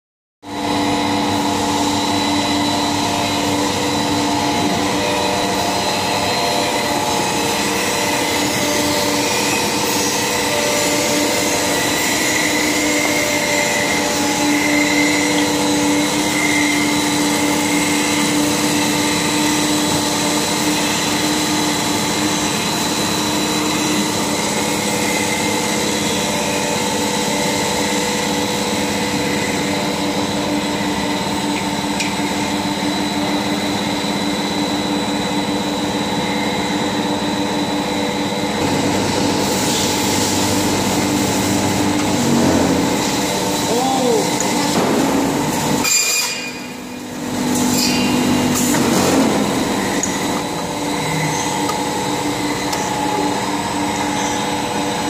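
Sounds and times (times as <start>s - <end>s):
steady machine noise: 0.4s - 55.0s
machine whining tones: 0.5s - 55.0s.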